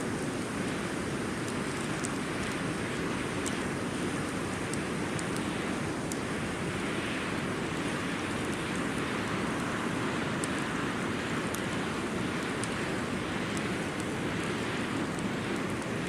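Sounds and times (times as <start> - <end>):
campfire crackling and popping: 0.0 - 16.0
steady rushing noise: 0.0 - 16.0.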